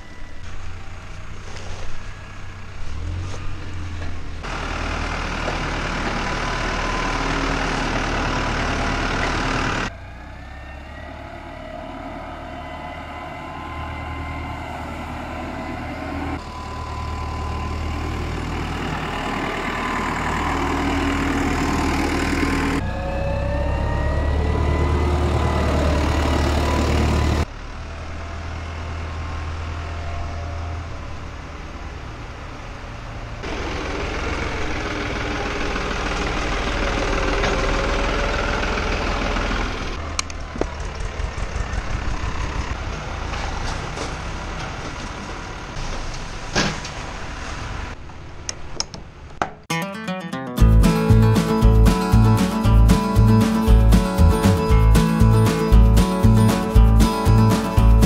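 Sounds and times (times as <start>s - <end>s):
diesel tractor engines running: 0.0s - 49.4s, 50.6s - 58.0s.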